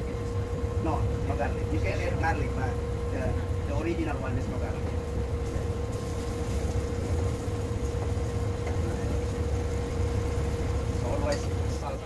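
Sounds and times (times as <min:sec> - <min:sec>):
boat engine drone: 0:00.0 - 0:12.0
steady hum: 0:00.0 - 0:12.0.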